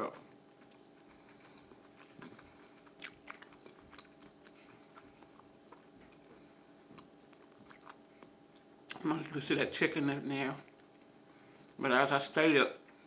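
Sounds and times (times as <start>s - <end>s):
chewing crispy food: 0.0s - 11.8s.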